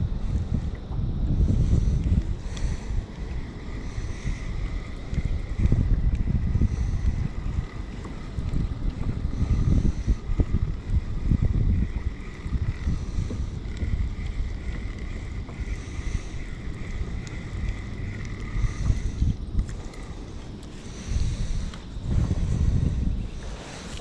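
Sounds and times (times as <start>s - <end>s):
water around a kayak: 0.0s - 24.0s
wind buffeting microphone: 0.0s - 24.0s.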